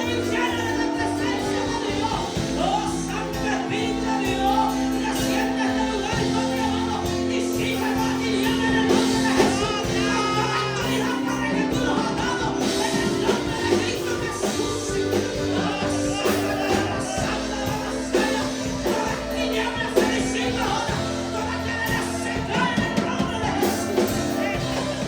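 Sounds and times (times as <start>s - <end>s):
band accompaniment: 0.0s - 25.0s
worship singing: 0.0s - 25.0s.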